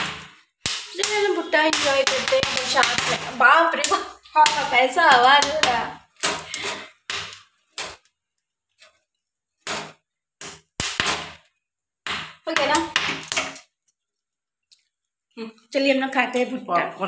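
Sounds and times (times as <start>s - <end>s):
corn kernels crackling and popping: 0.0s - 15.1s.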